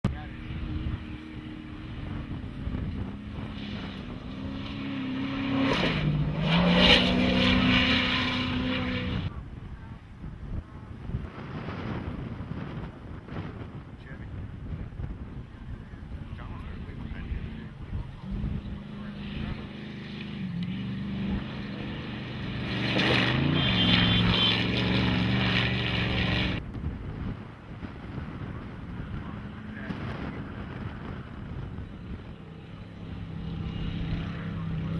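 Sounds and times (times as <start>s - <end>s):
off-road race vehicle engine: 0.0s - 34.9s.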